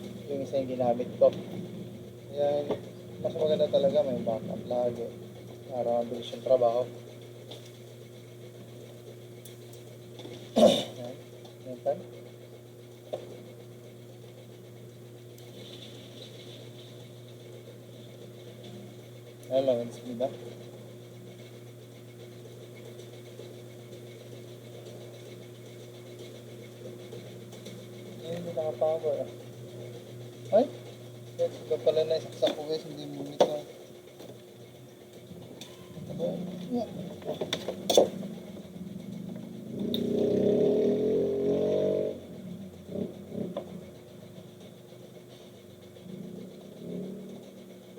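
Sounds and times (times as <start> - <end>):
computer fans spinning up: 0.0 - 47.9.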